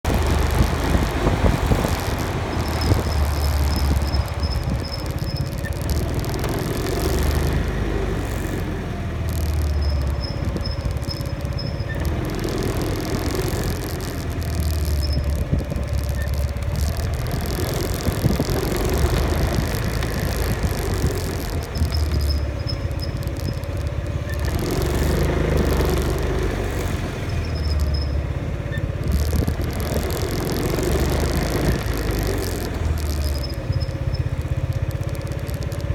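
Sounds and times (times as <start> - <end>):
brake pads squeaking: 0.0 - 35.9
road noise: 0.0 - 35.9
scooter running: 0.0 - 35.9.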